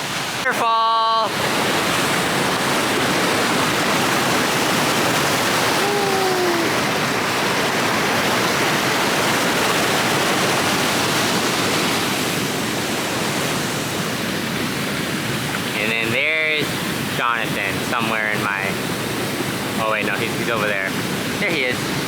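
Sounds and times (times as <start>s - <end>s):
waterfall pouring: 0.0s - 22.0s.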